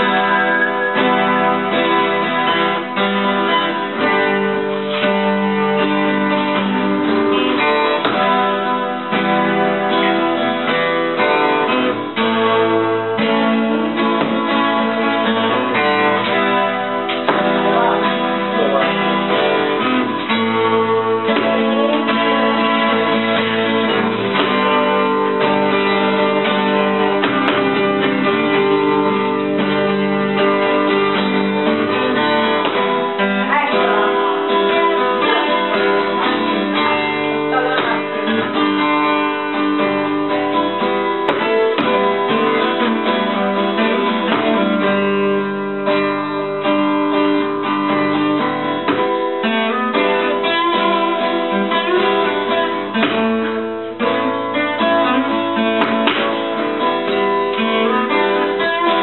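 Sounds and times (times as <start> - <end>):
acoustic guitars playing: 0.0 - 59.0.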